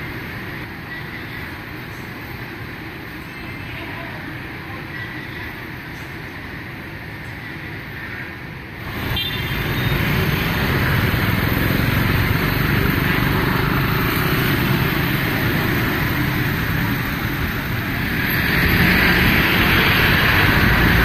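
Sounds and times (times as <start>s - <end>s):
city street traffic: 0.0s - 21.0s.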